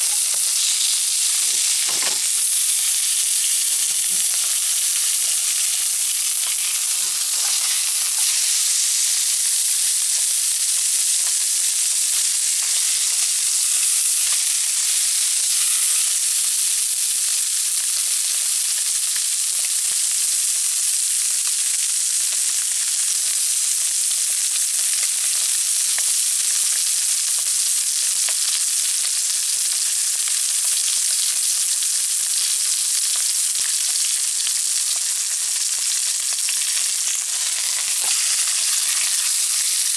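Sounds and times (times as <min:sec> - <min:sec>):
pork sizzling in a pan: 0:00.0 - 0:39.9.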